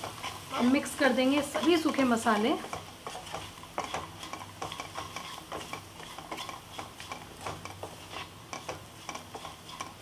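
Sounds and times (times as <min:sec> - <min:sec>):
food sizzling: 0:00.0 - 0:10.0
wooden spatula scraping pan: 0:00.0 - 0:10.0.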